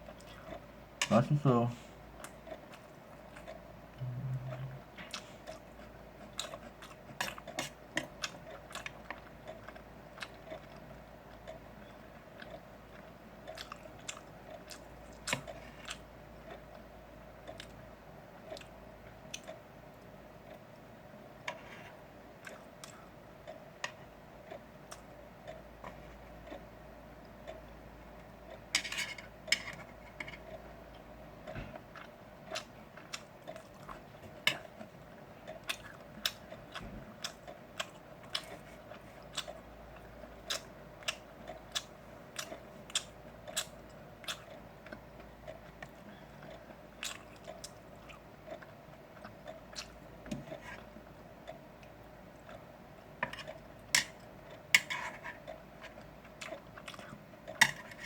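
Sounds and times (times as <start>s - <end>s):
close-miked chewing: 0.0s - 58.0s
faint steady hum: 0.0s - 58.0s.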